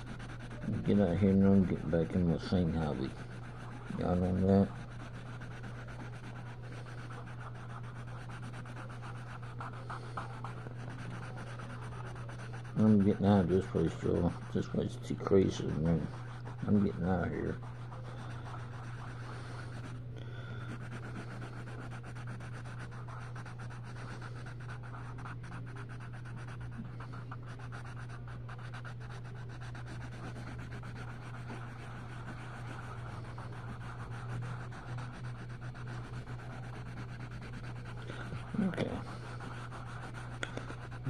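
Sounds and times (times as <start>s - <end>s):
pencil scratching on paper: 0.0s - 41.0s
steady low hum: 0.0s - 41.0s.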